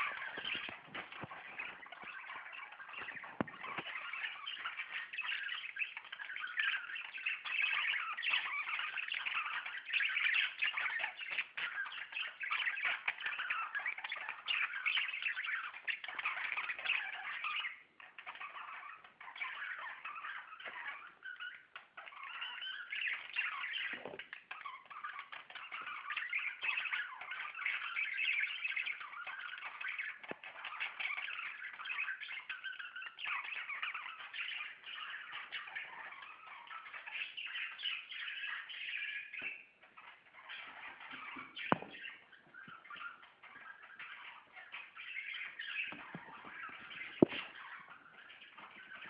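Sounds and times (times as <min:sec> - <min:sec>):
budgerigars chirping: 0:00.0 - 0:49.0.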